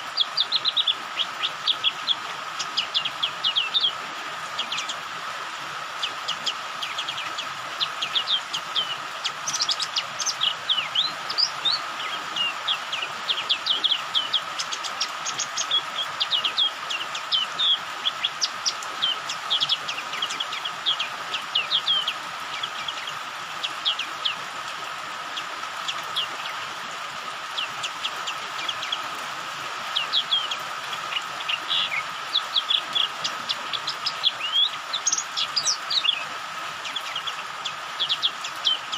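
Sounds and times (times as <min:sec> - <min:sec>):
bird twittering high chirps: 0:00.0 - 0:05.1, 0:05.9 - 0:24.4, 0:29.9 - 0:38.9
rain hiss: 0:00.0 - 0:38.9.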